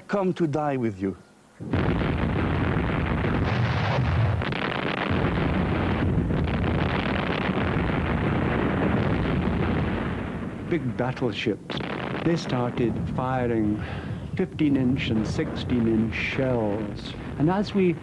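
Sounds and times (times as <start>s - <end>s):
barrage of gunfire and explosions: 1.6s - 18.0s.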